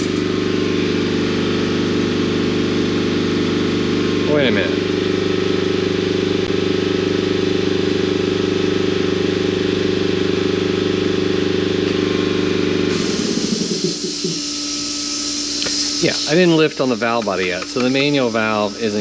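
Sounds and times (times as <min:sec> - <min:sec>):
electric motor humming and winding down: 0:00.0 - 0:19.0.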